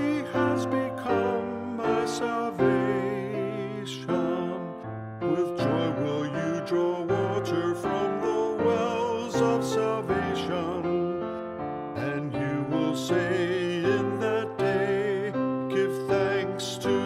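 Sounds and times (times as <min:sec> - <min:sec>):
piano accompaniment: 0:00.0 - 0:17.0
slow melody with vibrato: 0:00.0 - 0:17.0.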